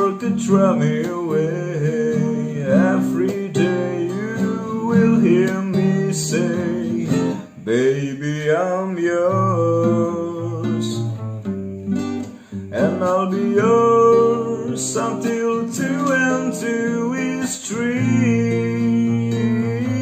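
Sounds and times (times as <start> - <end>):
song with strummed acoustic guitar: 0.0 - 20.0.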